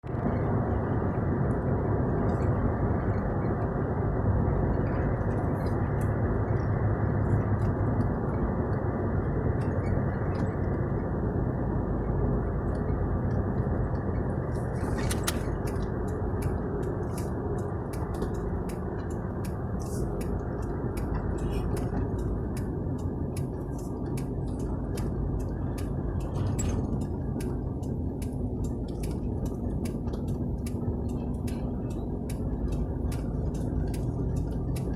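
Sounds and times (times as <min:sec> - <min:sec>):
vehicle engine and road noise: 0:00.0 - 0:34.9
regular clicking ticks: 0:02.3 - 0:34.9.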